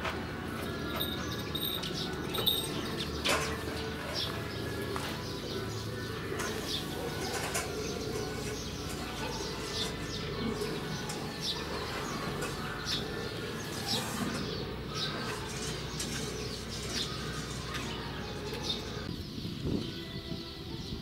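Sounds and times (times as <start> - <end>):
birds chirping: 0.0 - 21.0
dove cooing: 0.7 - 19.1.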